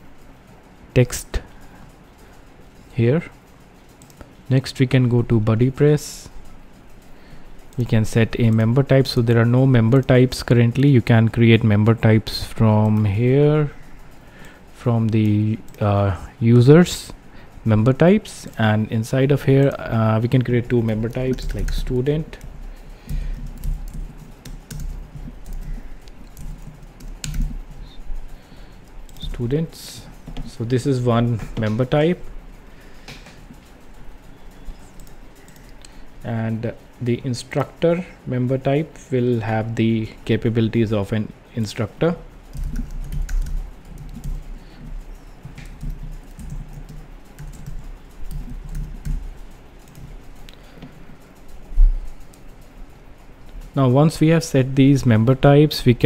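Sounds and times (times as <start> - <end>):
computer keyboard typing: 0.1 - 55.2.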